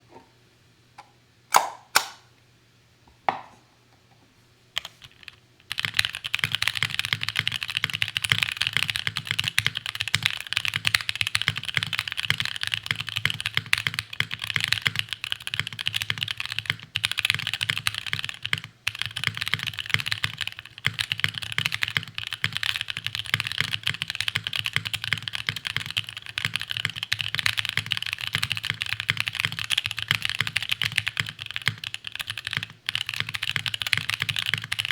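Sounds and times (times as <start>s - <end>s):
mechanical keyboard typing: 4.8s - 34.9s.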